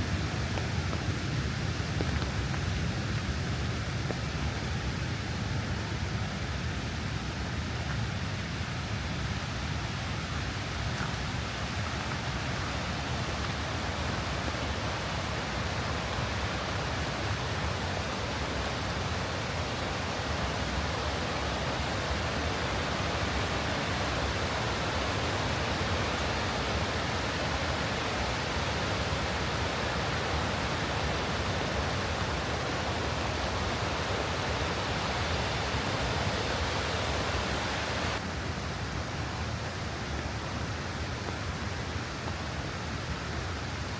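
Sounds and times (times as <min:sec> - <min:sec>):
waterfall and creek rushing: 0:00.0 - 0:43.9.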